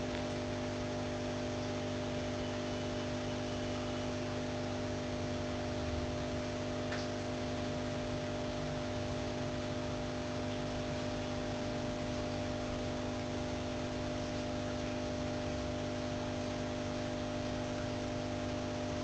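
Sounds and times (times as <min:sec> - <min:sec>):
buzzing electrical hum: 0:00.0 - 0:19.0.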